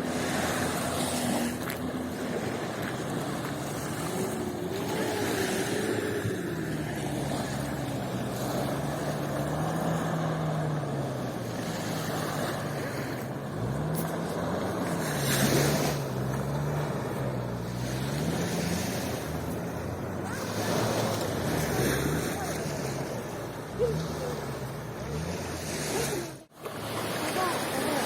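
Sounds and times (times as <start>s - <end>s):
engine droning: 0.0s - 28.0s
surf washing on shore: 0.0s - 28.0s.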